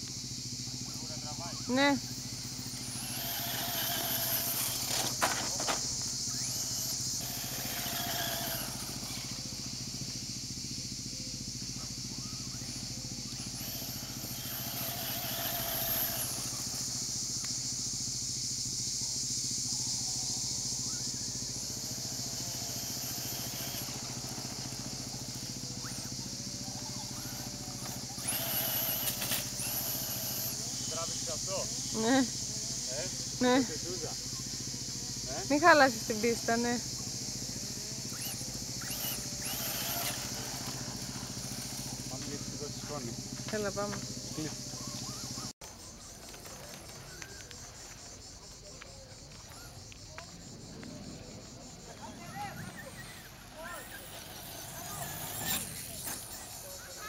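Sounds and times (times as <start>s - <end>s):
rc truck motor whining: 0.0s - 48.3s, 49.1s - 57.0s.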